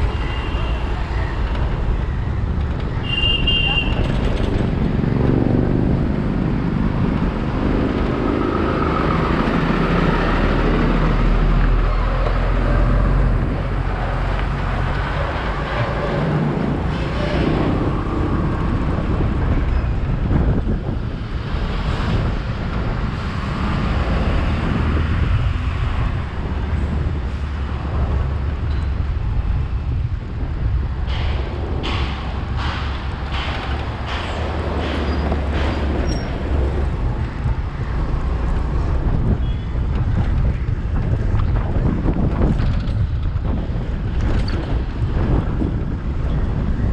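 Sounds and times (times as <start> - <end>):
surrounding traffic: 0.0 - 46.9
wind buffeting microphone: 0.0 - 46.9.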